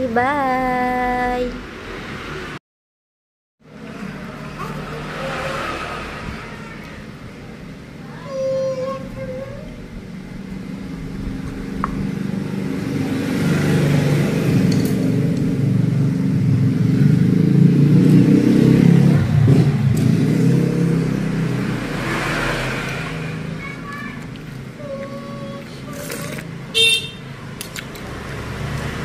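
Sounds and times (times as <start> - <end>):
vehicle engine passing by: 1.0 - 2.6, 3.6 - 7.7, 10.2 - 26.7, 27.3 - 29.0.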